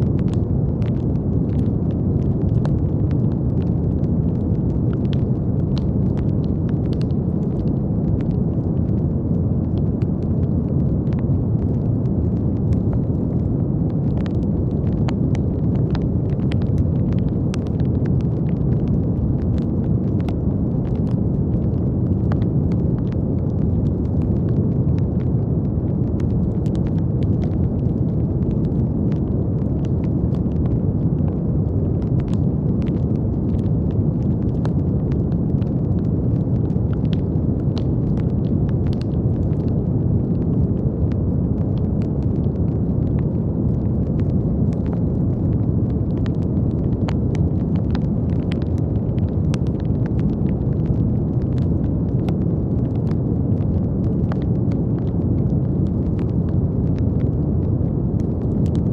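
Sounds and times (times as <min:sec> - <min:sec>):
brown noise rushing: 0:00.0 - 0:58.9
faint crackles: 0:00.0 - 0:58.9.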